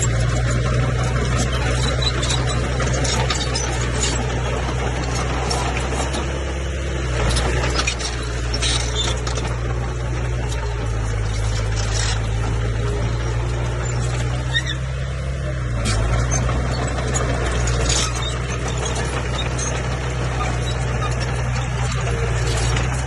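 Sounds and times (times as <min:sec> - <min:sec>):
bulldozer diesel engine running: 0:00.0 - 0:23.0
metallic squeaks and clanks: 0:00.0 - 0:23.0.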